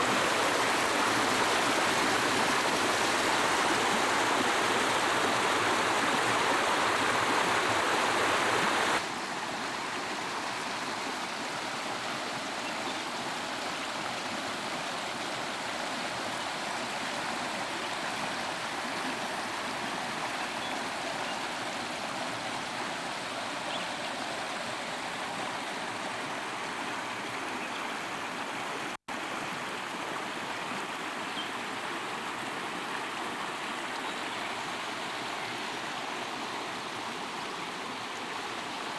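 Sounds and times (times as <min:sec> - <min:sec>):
rushing storm water: 0:00.0 - 0:38.9.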